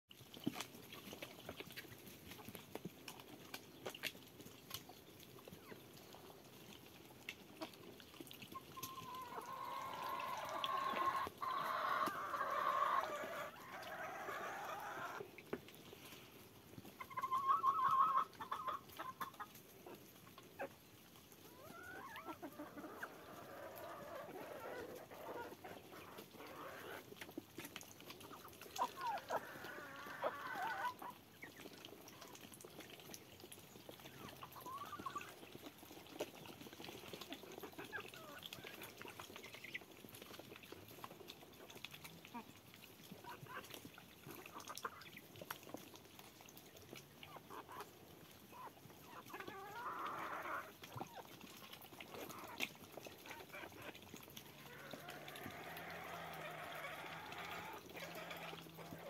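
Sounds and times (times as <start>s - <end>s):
chickens clucking: 0.4s - 59.0s.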